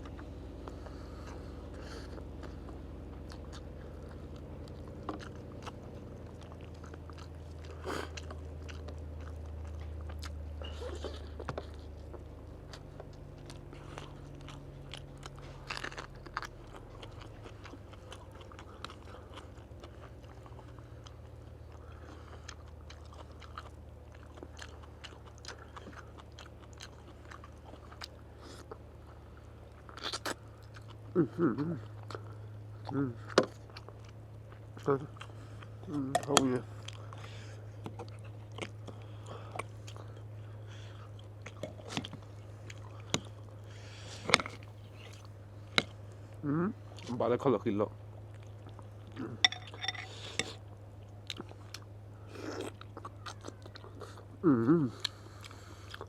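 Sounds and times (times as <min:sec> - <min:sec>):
person chewing crunchy food: 0:00.0 - 0:47.2, 0:48.0 - 0:56.0
low hum: 0:00.0 - 0:56.0.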